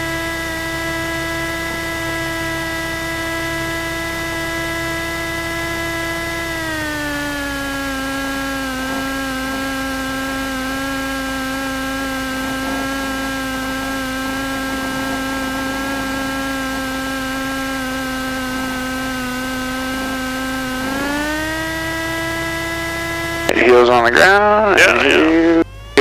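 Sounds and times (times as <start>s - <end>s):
aircraft engine droning: 0.0s - 26.0s.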